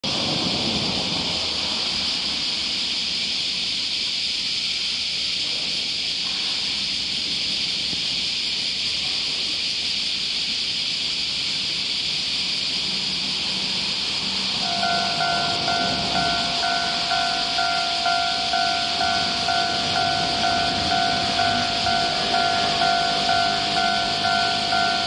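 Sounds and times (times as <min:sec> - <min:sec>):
faint traffic rumble: 0:00.1 - 0:25.0
high-pitched hiss: 0:00.1 - 0:25.0.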